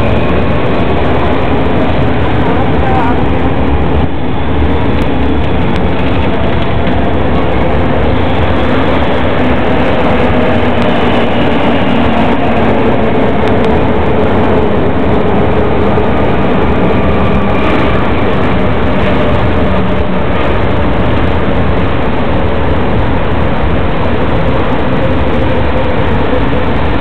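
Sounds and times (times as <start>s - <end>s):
electric train rumbling: 0.0s - 27.0s
train motor whine: 0.0s - 27.0s.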